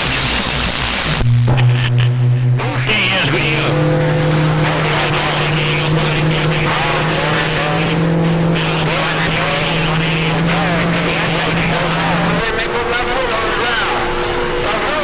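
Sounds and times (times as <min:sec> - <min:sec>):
radio heterodyne hum: 0:00.0 - 0:15.0
radio static: 0:00.0 - 0:15.0
garbled warbling radio signals: 0:01.2 - 0:15.0.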